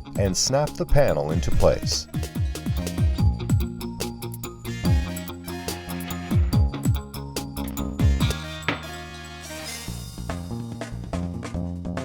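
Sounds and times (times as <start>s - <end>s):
electronic music: 0.0s - 10.4s.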